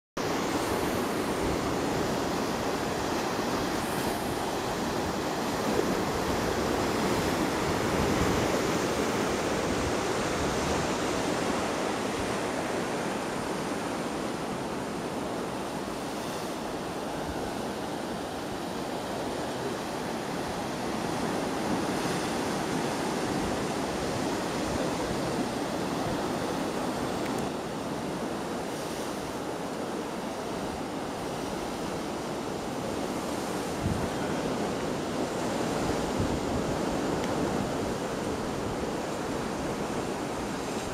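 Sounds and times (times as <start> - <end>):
ocean waves breaking: 0.2 - 40.9.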